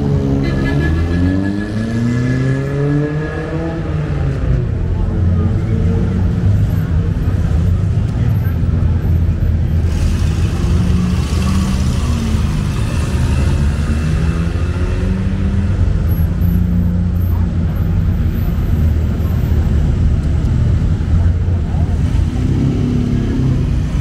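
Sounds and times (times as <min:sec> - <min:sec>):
car engines running at low revs: 0:03.5 - 0:24.0.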